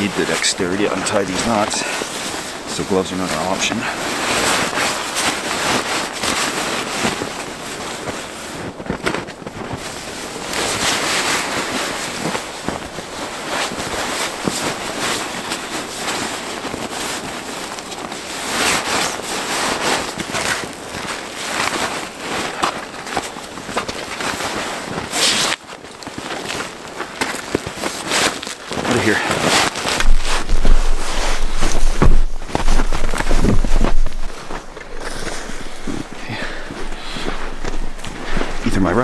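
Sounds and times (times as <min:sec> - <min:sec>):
fabric and gear rustling: 0:00.0 - 0:39.0.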